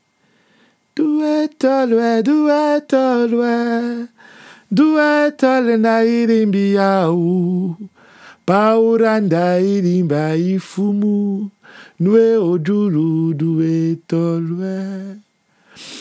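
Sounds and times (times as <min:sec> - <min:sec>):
man singing unaccompanied: 0:00.9 - 0:15.3.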